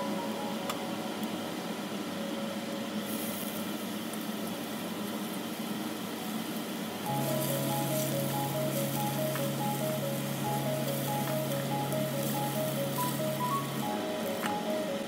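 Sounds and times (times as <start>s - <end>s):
food hissing and bubbling in pan: 2.8s - 15.0s.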